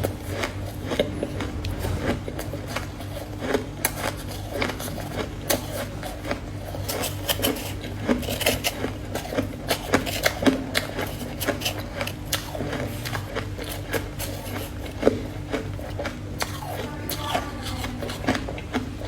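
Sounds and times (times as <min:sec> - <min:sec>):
ice being chewed: 0:00.0 - 0:19.0
steady low hum: 0:00.0 - 0:19.0.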